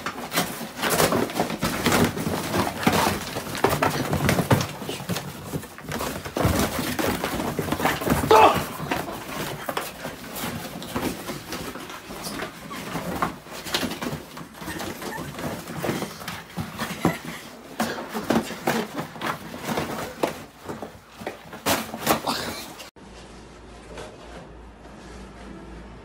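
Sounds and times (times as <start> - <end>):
dog scuffling on floor: 0.0 - 22.3.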